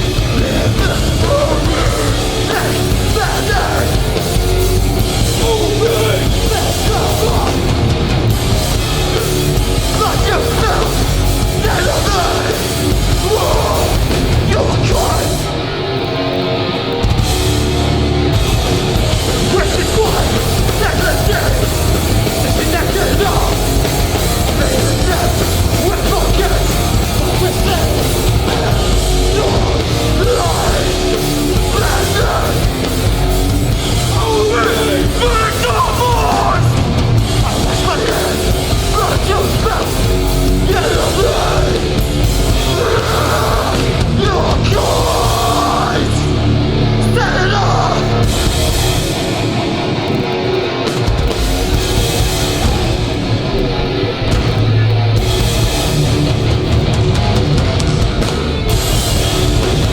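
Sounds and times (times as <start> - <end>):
shouted vocals: 0.0 - 17.1, 18.8 - 56.9
bass and drums: 0.0 - 59.9
distorted guitars: 0.0 - 59.9.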